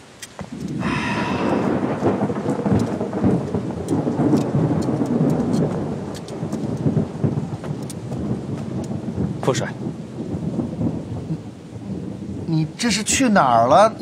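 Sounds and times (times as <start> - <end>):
heavy rain: 0.0 - 14.0
thunder rumbling: 0.4 - 14.0.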